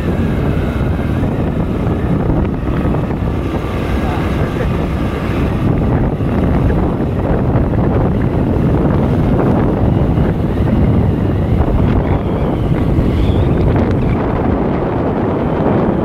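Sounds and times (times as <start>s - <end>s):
motorcycle engine and road noise: 0.0s - 16.0s
wind buffeting microphone: 0.0s - 16.0s.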